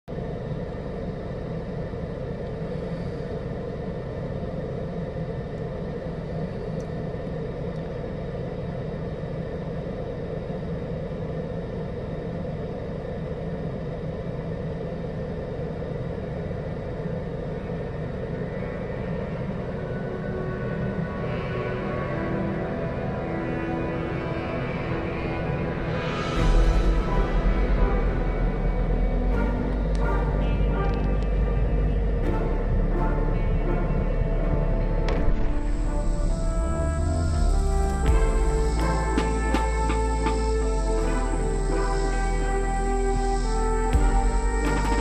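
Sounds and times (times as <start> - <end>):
low rumbling background noise: 0.0 - 45.0.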